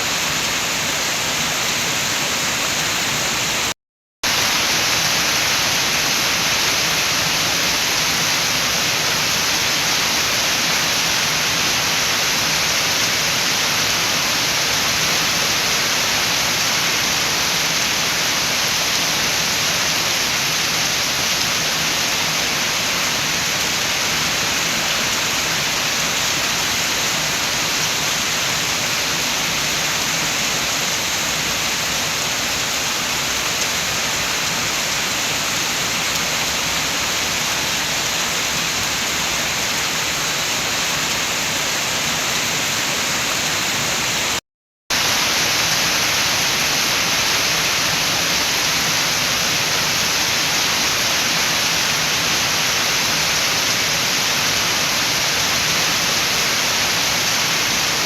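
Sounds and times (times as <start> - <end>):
steady rain: 0.0 - 58.0
wind: 0.0 - 58.0.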